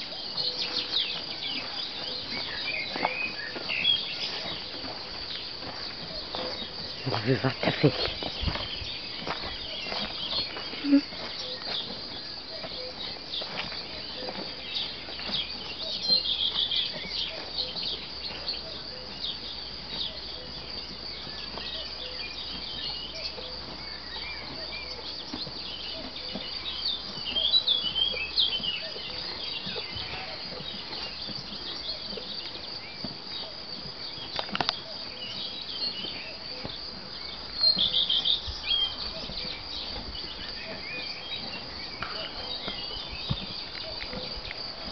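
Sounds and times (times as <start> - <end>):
birds chirping: 0.0 - 44.9
horses chewing hay: 0.0 - 44.9
insects droning: 0.0 - 44.9.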